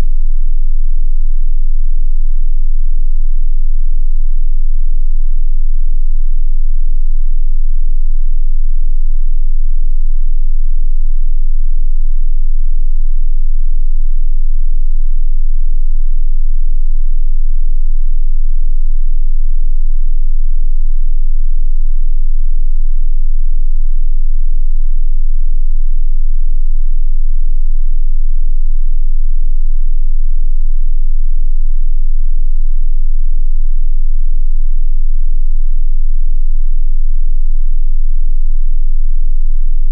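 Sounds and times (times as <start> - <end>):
steady low tone: 0.0 - 39.9.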